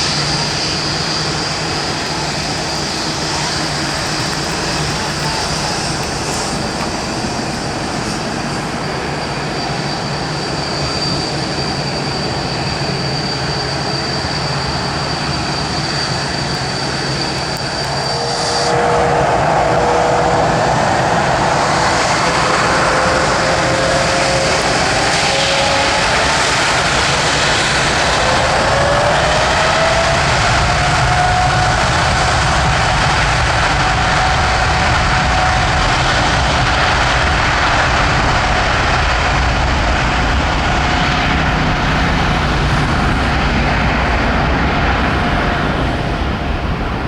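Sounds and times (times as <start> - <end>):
jet engines whining: 0.0 - 47.0.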